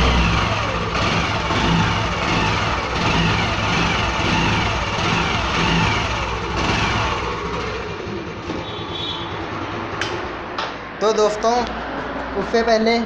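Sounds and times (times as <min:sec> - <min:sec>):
scooter engine running: 0:00.0 - 0:10.5.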